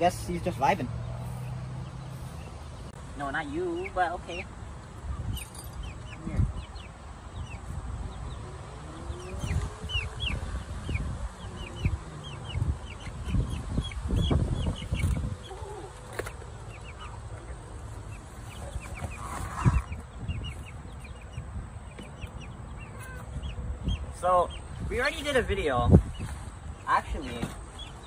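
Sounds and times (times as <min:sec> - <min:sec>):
chicks peeping: 0:00.1 - 0:28.0.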